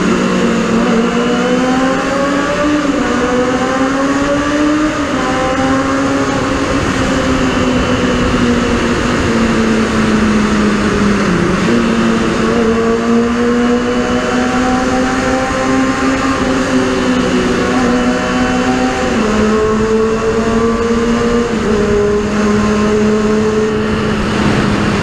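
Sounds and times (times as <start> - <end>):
motorcycle engine revving high: 0.0 - 25.0.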